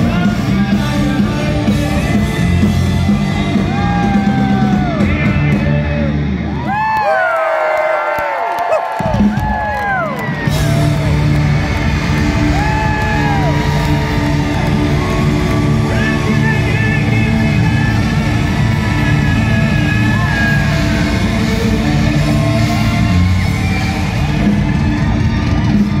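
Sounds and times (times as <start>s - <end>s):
electric lead guitar: 0.0s - 6.7s, 9.1s - 26.0s
bass and drums: 0.0s - 7.2s, 8.8s - 26.0s.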